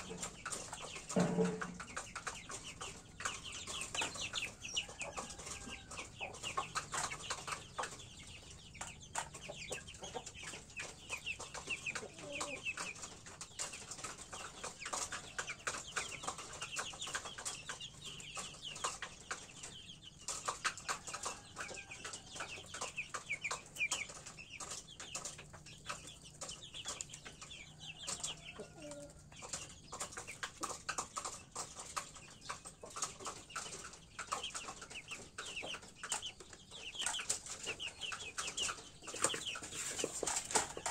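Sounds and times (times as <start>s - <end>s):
chick peeping: 0.0s - 40.9s
chickens clucking: 0.0s - 40.9s.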